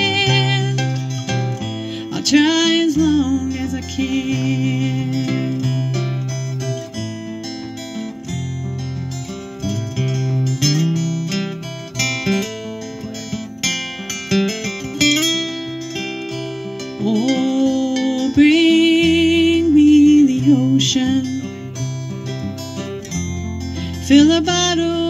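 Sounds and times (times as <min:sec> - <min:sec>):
acoustic guitars strumming: 0:00.0 - 0:25.0.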